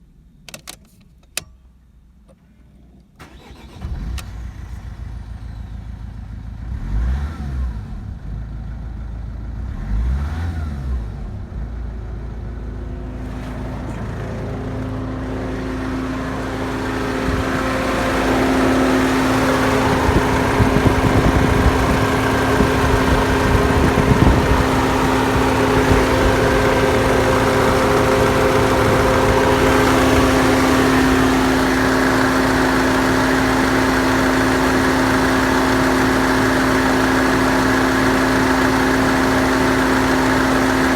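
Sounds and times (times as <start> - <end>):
diesel engine starting and idling: 2.1 - 40.9
diesel engine revving: 3.2 - 5.5, 6.5 - 8.5, 9.6 - 40.9.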